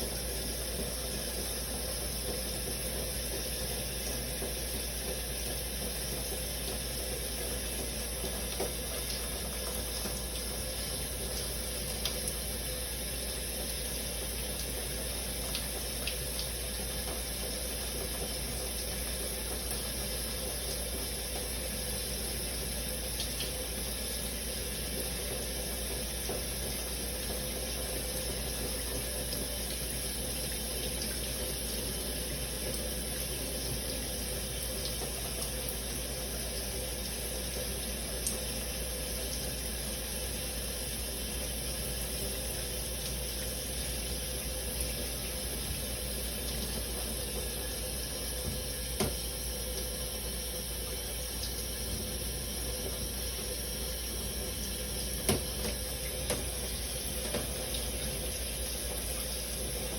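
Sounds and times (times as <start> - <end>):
shower spraying water: 0.0 - 59.9.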